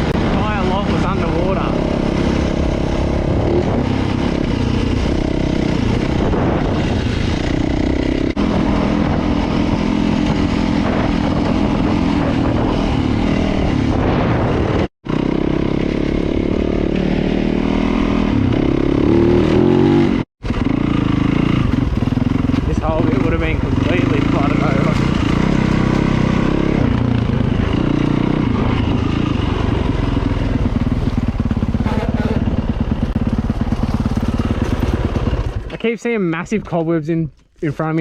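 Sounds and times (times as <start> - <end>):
dirt bike engine revving: 0.0 - 35.7.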